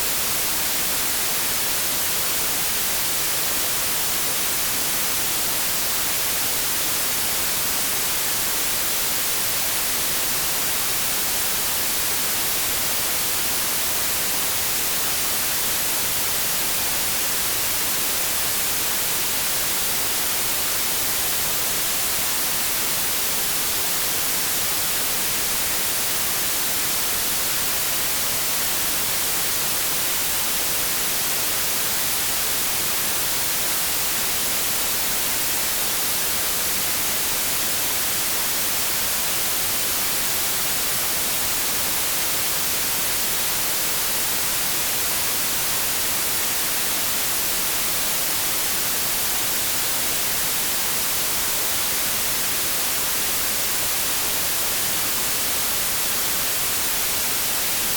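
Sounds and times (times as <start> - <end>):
steady white noise hiss: 0.0 - 57.9.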